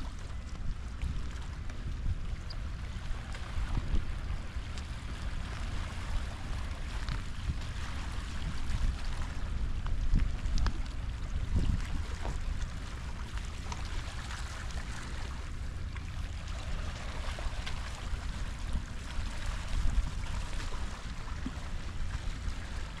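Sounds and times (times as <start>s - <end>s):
sea water noise: 0.0s - 23.0s
wind buffeting microphone: 0.0s - 23.0s.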